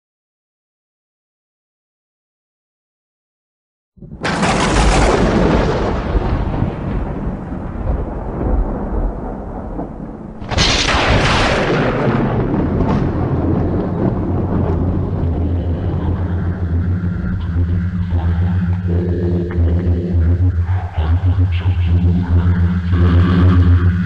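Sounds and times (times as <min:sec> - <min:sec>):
thunder cracking and rumbling: 0:04.0 - 0:24.0.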